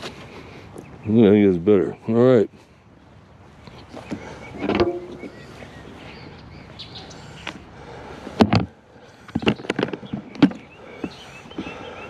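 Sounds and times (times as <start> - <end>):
birds chirping faintly: 0.0 - 12.0
steady outdoor hiss: 0.0 - 12.0.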